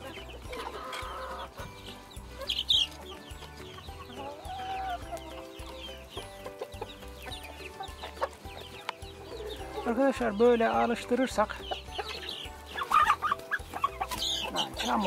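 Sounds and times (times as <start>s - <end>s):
chicks peeping: 0.0s - 15.0s
hens clucking: 0.0s - 15.0s.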